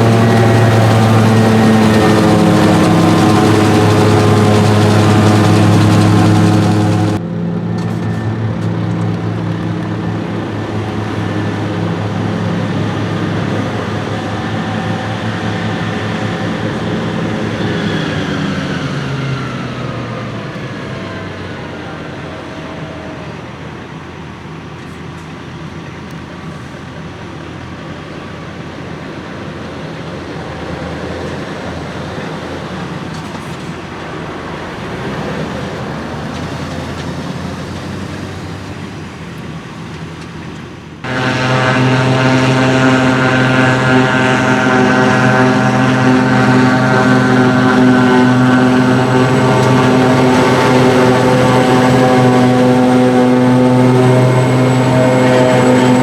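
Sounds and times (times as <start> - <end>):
high-revving engine drone: 0.0 - 39.3, 41.0 - 56.0
diesel harvesting machinery: 0.0 - 56.0.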